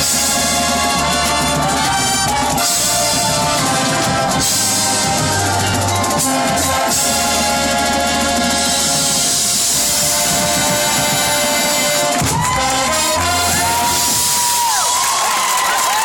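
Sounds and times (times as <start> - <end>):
drums: 0.0 - 16.0
loud band music: 0.0 - 16.0.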